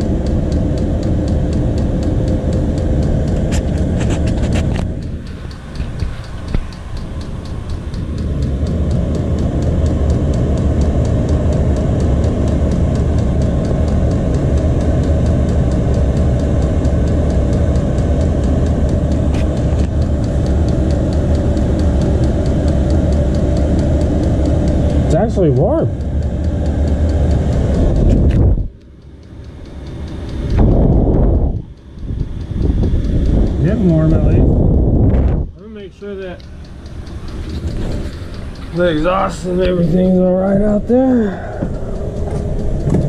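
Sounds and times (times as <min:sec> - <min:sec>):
fuel pump ticking: 0:00.0 - 0:43.0
heater fan and burner hum: 0:00.0 - 0:43.0.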